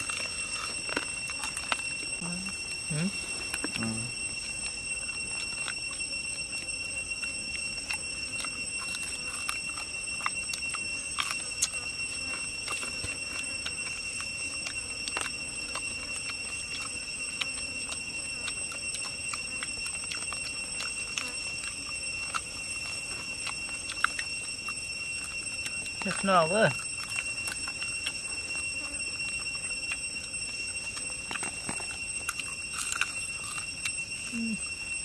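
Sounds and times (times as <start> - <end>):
insects droning: 0.0 - 35.0
people chewing: 0.0 - 35.0.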